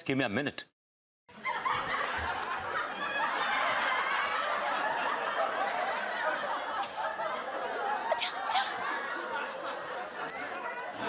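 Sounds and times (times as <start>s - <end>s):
laugh track: 1.3s - 11.0s.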